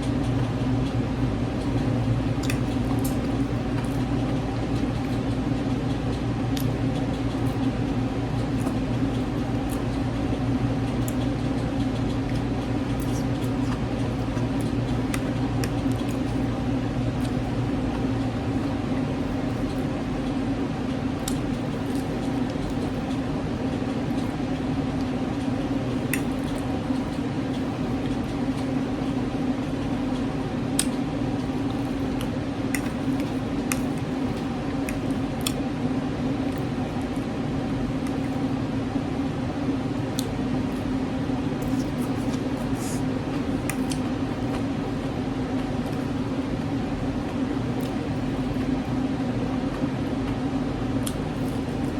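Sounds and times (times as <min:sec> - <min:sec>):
soft squishy chewing: 0:00.0 - 0:35.7, 0:41.5 - 0:51.9
steady hum: 0:00.0 - 0:51.9.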